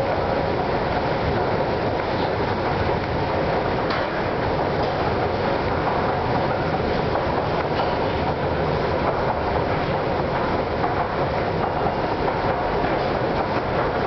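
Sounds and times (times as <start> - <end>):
moving walkway mechanical rumble: 0.0 - 14.0.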